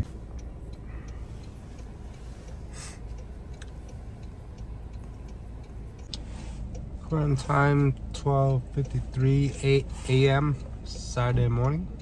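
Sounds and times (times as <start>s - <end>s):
car cabin rumble: 0.0s - 12.0s
turn-signal indicator ticking: 0.0s - 12.0s.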